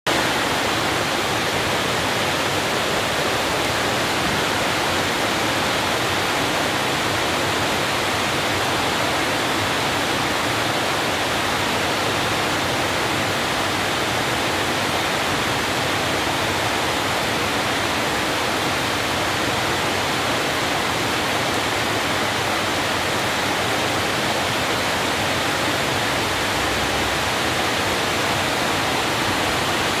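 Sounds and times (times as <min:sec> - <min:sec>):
heavy rain: 0:00.1 - 0:30.0.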